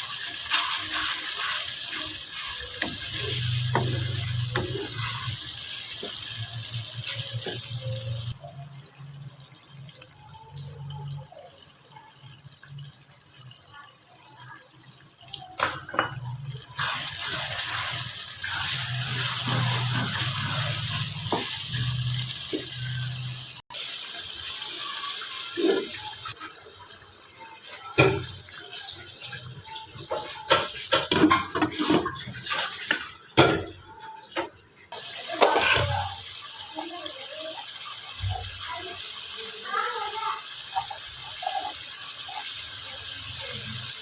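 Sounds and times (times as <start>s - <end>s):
food sizzling in oil: 0.0s - 44.0s.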